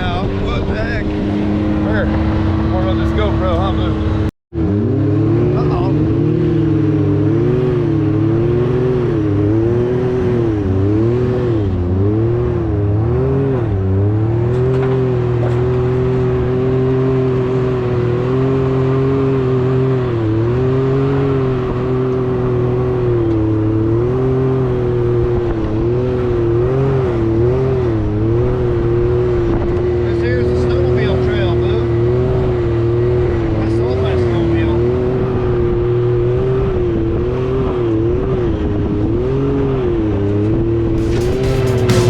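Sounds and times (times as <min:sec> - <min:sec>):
vehicle engine revving under load: 0:00.0 - 0:42.0.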